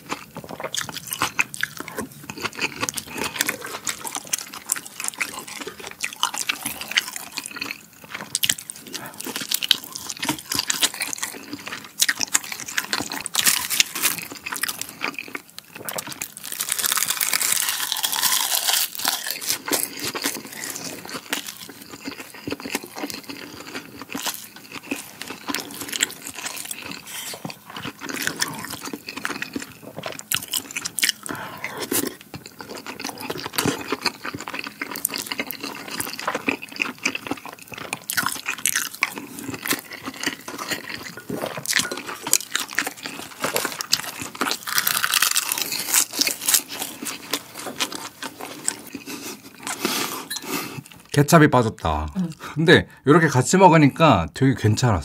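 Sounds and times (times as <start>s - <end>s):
wet chewing and smacking: 0.0s - 51.1s.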